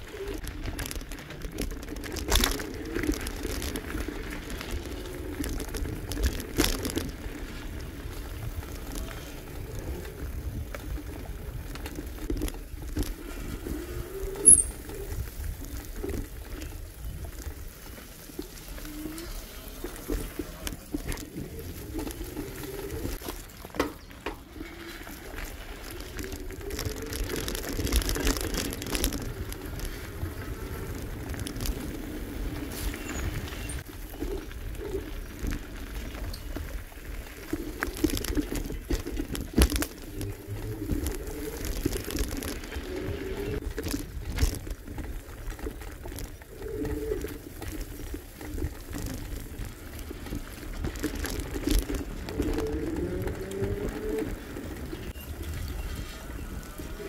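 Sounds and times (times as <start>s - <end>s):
bicycle clicks and rattles: 0.0s - 57.0s
bicycle tyres rolling: 0.0s - 57.0s.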